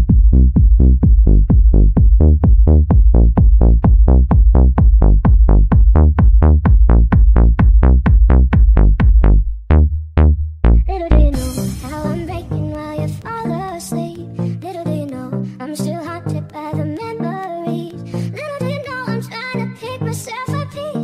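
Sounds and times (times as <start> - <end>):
heavy steady bass: 0.0 - 17.0.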